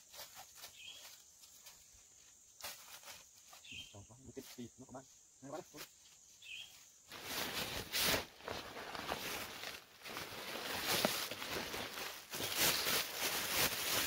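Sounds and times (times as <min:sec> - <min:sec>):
outdoor rustling and crackling: 0:00.0 - 0:14.0.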